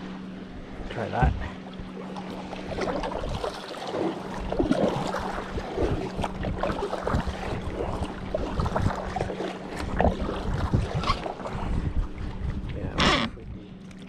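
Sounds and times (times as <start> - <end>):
water sloshing against hull: 0.0 - 14.0
paddle splashing in water: 2.0 - 13.4.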